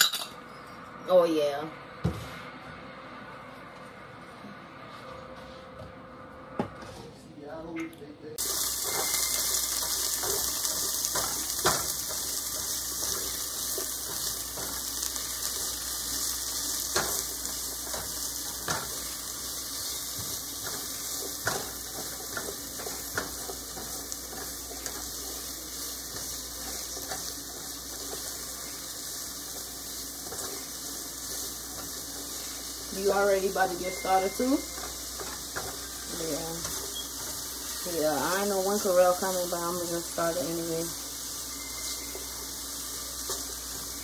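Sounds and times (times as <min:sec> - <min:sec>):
onions sizzling in oil: 0:08.4 - 0:44.0.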